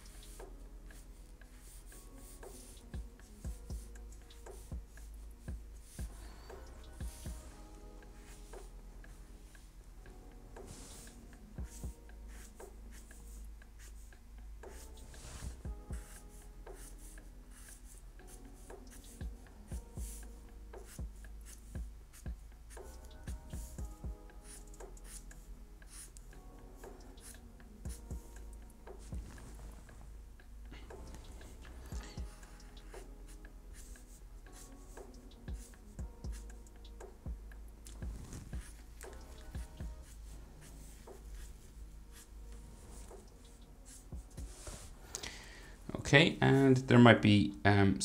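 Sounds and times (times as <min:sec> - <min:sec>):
marker scratching on paper: 0:00.0 - 0:08.8, 0:10.6 - 0:23.8, 0:24.4 - 0:26.2, 0:26.8 - 0:30.0, 0:31.0 - 0:37.2, 0:38.0 - 0:44.9
soft background music: 0:00.0 - 0:48.0.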